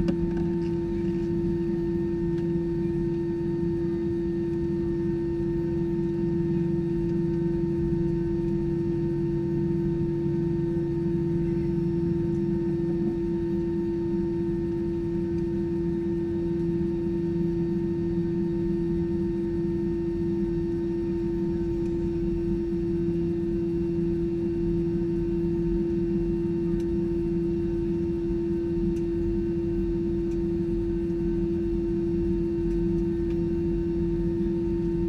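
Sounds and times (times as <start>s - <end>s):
airplane cabin drone: 0.0s - 35.0s.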